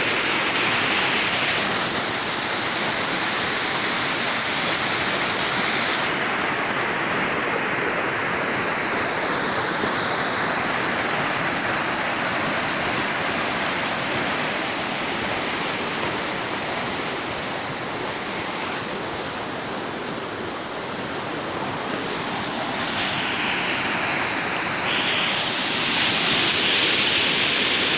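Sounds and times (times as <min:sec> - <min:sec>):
water pouring over canal fall: 0:00.0 - 0:27.9.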